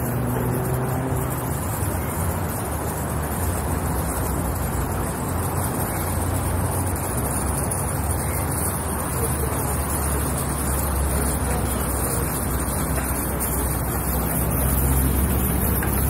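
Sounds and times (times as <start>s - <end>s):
car passing slowly: 0.0s - 16.0s
low traffic rumble: 0.0s - 16.0s.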